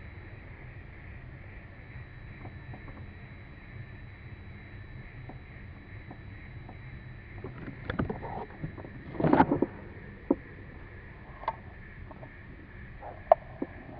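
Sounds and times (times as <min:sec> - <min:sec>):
low steady rumble: 0:00.0 - 0:13.9.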